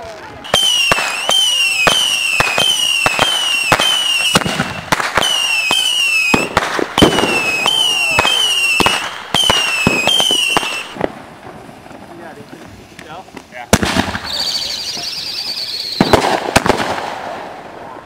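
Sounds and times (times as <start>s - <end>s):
whistling firework shots: 0.4s - 11.2s, 13.0s - 18.0s.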